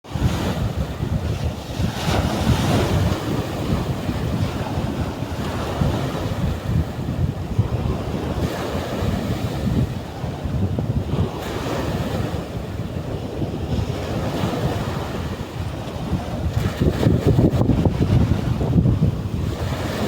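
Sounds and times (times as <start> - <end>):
sea waves breaking on beach: 0.0 - 20.0
wind buffeting microphone: 0.0 - 20.0.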